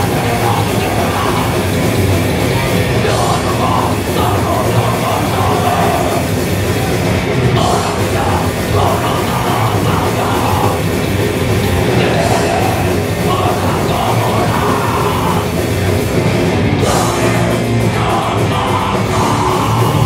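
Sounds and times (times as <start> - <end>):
distorted electric guitars: 0.0 - 20.0
drums pounding: 0.0 - 20.0.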